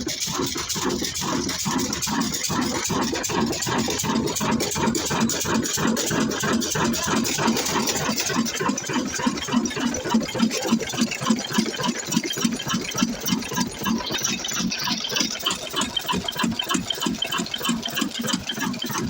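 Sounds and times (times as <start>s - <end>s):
stationary engine chugging: 0.0s - 19.0s.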